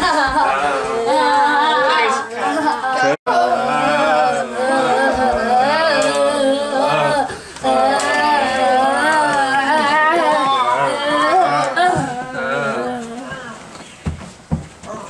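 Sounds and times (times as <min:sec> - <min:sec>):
song with sung vocals: 0:00.1 - 0:13.4.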